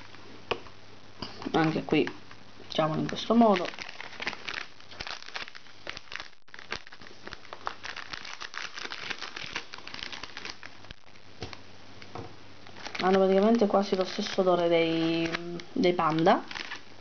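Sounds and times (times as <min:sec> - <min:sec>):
plastic packaging crinkling: 0:00.0 - 0:00.6, 0:01.2 - 0:11.6, 0:12.6 - 0:17.0.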